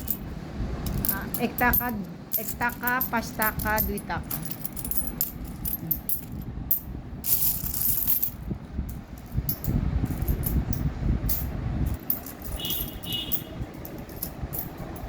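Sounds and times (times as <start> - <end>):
coins clinking and clattering: 0.0 - 0.2, 0.9 - 15.0.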